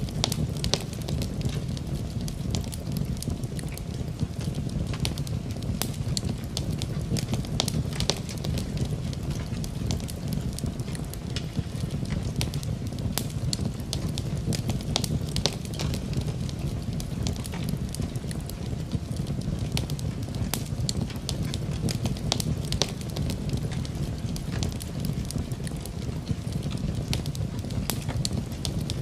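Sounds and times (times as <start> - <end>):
continuous rain: 0.0 - 29.0
wood fire crackling: 0.0 - 29.0.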